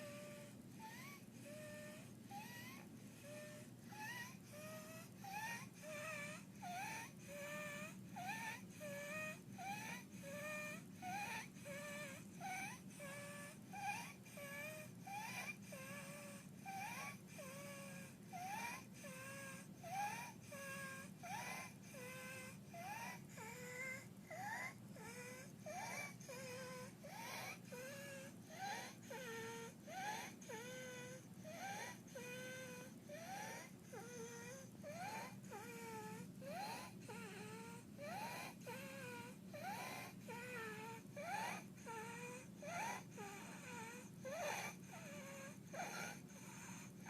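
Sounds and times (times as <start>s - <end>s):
infant breathing with high squeak: 0.0s - 10.4s, 14.8s - 47.0s.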